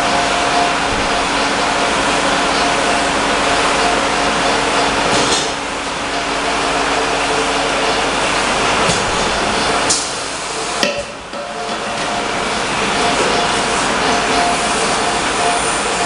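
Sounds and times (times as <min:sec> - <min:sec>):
bottling machine running: 0:00.0 - 0:16.0.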